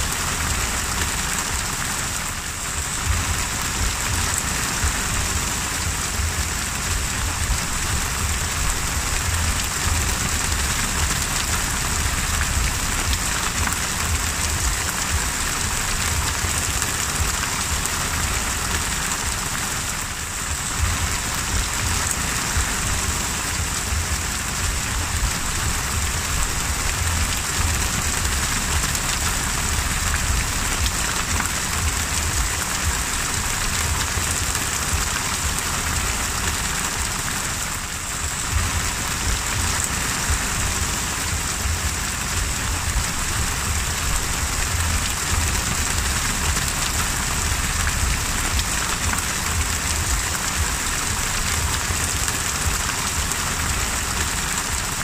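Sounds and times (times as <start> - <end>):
heavy rain on water: 0.0 - 55.0
low rumble: 0.4 - 54.9.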